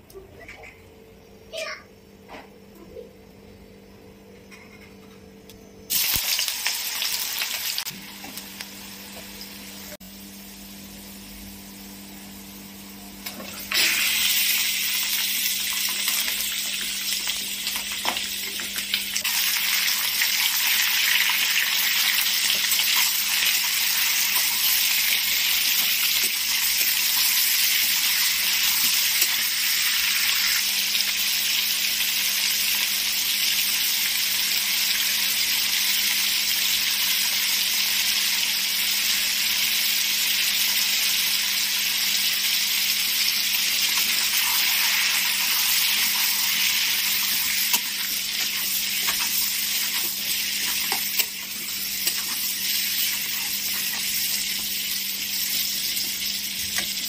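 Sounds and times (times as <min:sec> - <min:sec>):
chicken sizzling in hot oil: 0:05.9 - 0:57.0.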